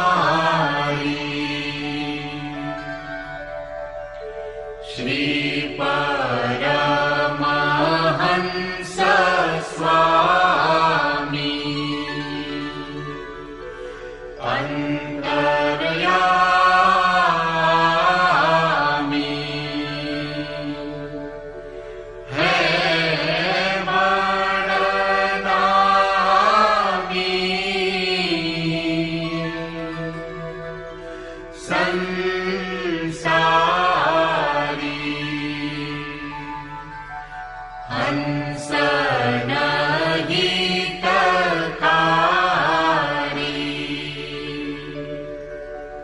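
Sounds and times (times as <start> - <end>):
sustained drone tones: 0.0 - 46.0
person chanting with wavering pitch: 4.8 - 46.0.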